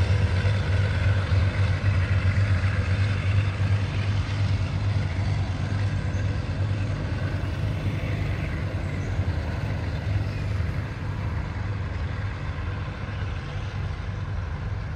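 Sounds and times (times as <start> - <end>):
locomotive engine hum: 0.0 - 14.9.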